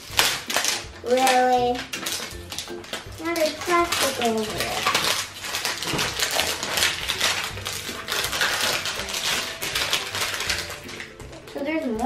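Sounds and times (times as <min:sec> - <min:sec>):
plastic wrap crinkling and tearing: 0:00.0 - 0:12.0.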